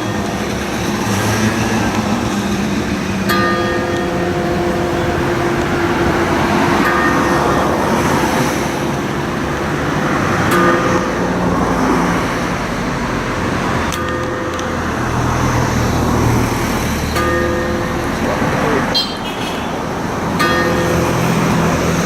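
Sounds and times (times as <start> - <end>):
church bell clanging: 0.0 - 22.0
passing road traffic: 0.0 - 22.0.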